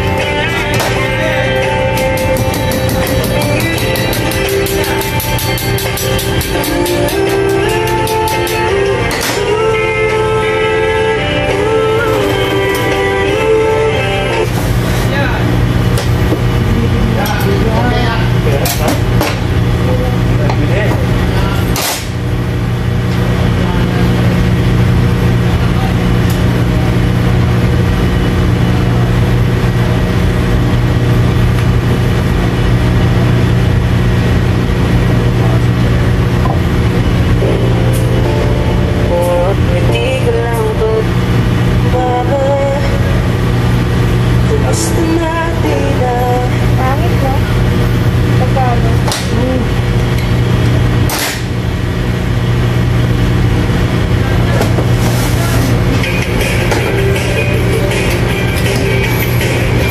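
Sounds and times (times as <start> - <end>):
machinery and ventilation hum: 0.0 - 59.9.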